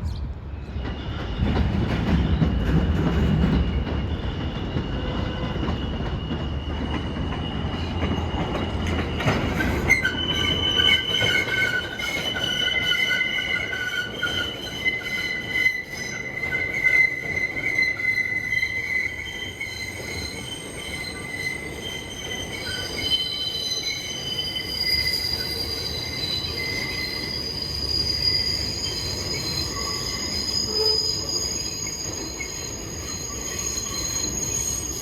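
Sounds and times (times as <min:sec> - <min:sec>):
low rumble of train running: 0:00.0 - 0:35.0
train wheels squealing on rails: 0:00.0 - 0:35.0.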